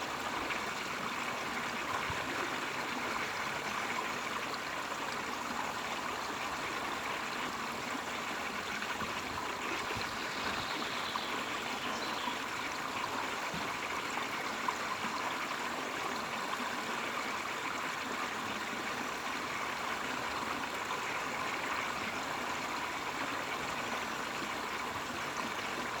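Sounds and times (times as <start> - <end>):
stream water babbling: 0.0 - 26.0.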